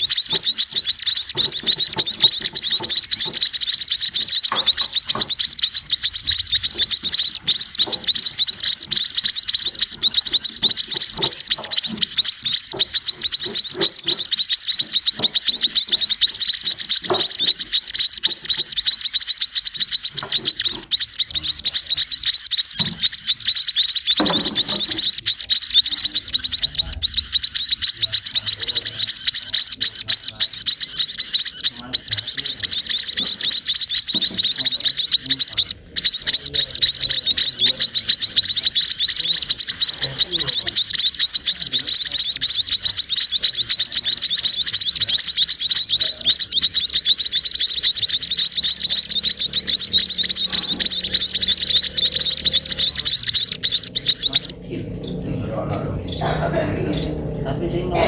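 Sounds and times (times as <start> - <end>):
chicks begging chirps: 0.0 - 58.0.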